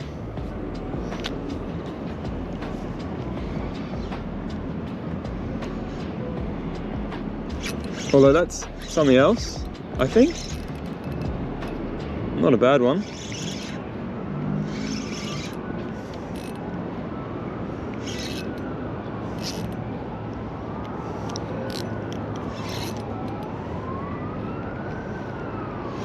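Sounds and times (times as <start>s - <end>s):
distant siren wailing: 0.0s - 26.0s.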